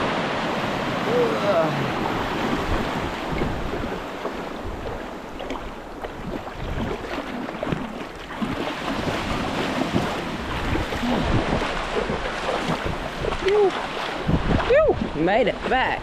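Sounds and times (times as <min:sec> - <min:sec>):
small waves washing on beach: 0:00.0 - 0:16.0
wind buffeting microphone: 0:00.0 - 0:16.0.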